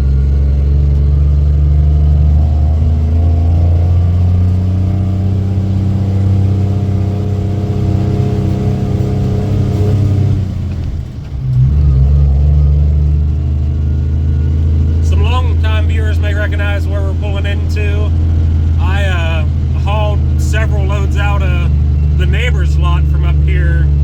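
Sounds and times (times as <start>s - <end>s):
diesel truck engine pulling uphill: 0.0s - 24.0s.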